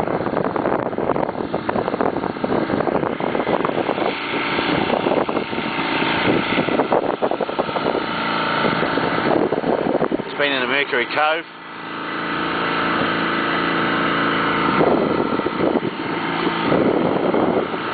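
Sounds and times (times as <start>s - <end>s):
wind noise: 0.0s - 11.0s, 12.6s - 17.9s
boat motor running: 0.0s - 17.9s.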